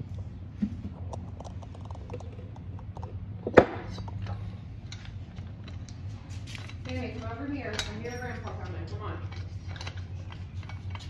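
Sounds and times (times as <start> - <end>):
steady low hum: 0.0 - 11.0
tools and parts clicking: 1.1 - 11.0.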